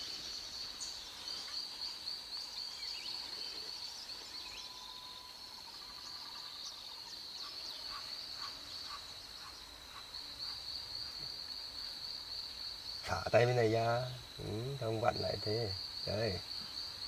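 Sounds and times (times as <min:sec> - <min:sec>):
insects buzzing: 0:00.0 - 0:17.0
short insect chirps: 0:00.0 - 0:17.0.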